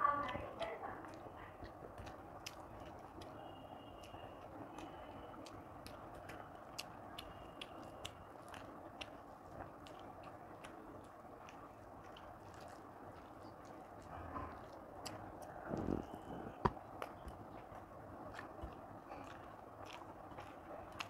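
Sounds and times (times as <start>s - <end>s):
chewing with wet mouth clicks: 0.1s - 21.0s.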